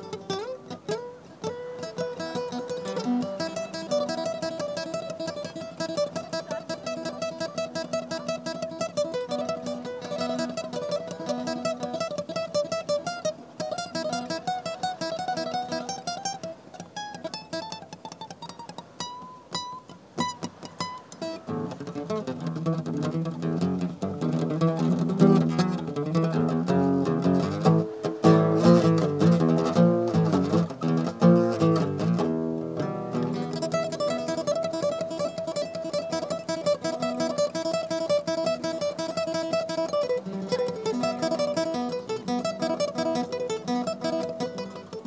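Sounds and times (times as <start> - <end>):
acoustic guitar playing: 0.0 - 45.0.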